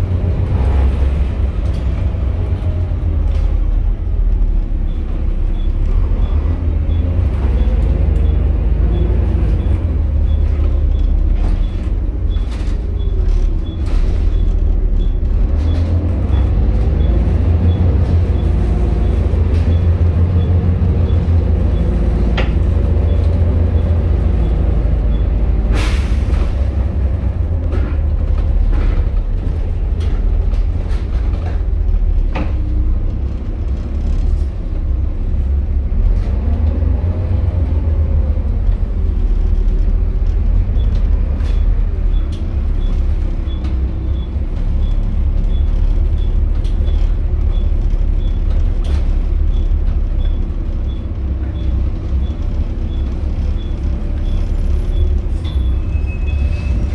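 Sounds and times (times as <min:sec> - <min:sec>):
bus body rattles and knocks: 0:00.0 - 0:56.9
bus diesel engine drone: 0:00.0 - 0:56.9.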